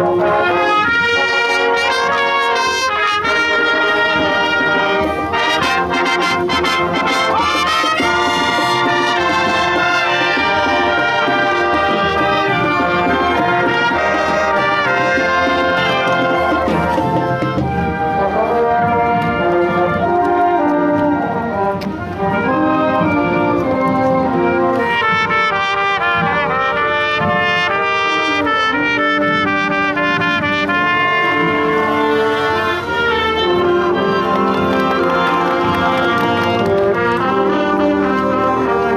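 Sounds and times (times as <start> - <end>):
marching band brass: 0.0 - 38.9
marching drums: 0.0 - 38.9.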